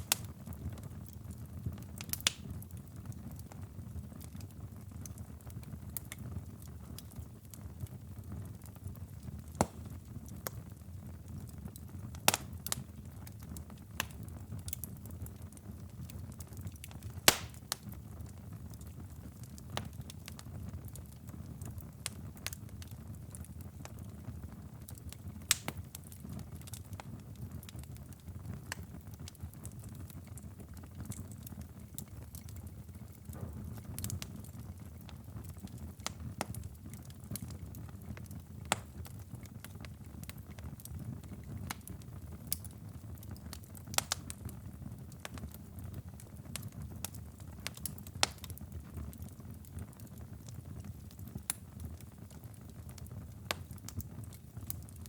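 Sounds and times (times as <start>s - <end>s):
low rumble of flames: 0.0s - 55.0s
wood fire pops and snaps: 0.0s - 55.0s.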